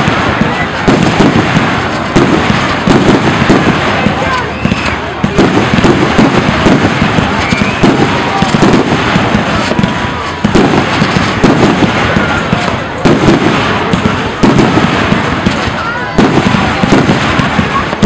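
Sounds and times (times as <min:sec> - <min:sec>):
firework booms: 0:00.0 - 0:18.0
firework crackling: 0:00.0 - 0:18.0.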